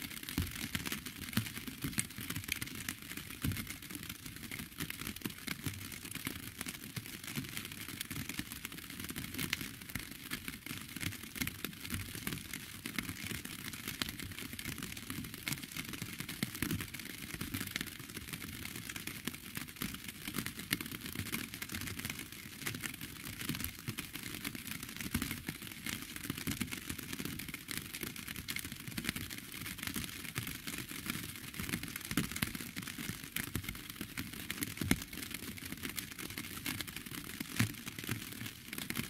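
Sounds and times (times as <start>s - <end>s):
rain on hard surface: 0.0s - 39.0s.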